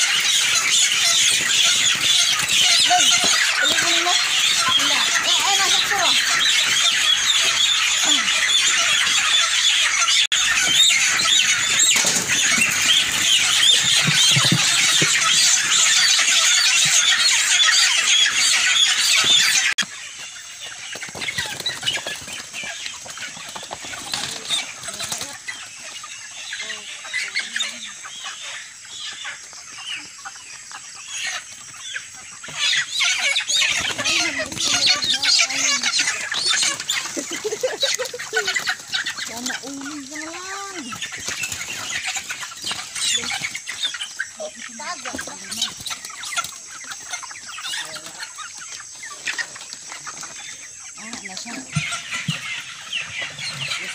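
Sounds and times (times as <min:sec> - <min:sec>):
chickens squawking: 0:00.0 - 0:53.9
chickens squealing and peeping: 0:00.0 - 0:53.9.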